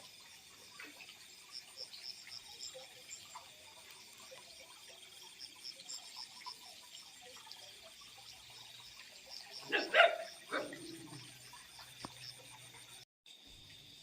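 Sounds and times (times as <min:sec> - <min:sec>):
crickets chirping: 0:00.0 - 0:14.0
faint high insect trill: 0:00.0 - 0:14.0.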